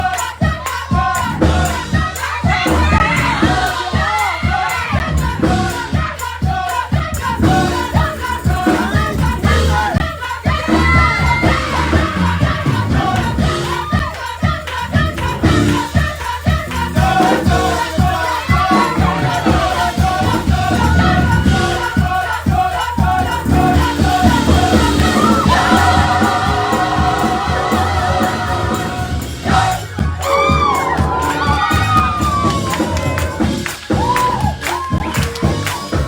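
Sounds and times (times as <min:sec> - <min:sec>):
band with bass and drums: 0:00.0 - 0:36.0
choir singing gospel music: 0:00.0 - 0:36.0.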